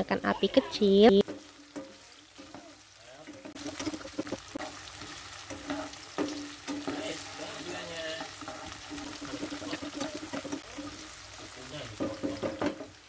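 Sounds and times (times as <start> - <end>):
onion sizzling in oil: 0.0 - 13.0.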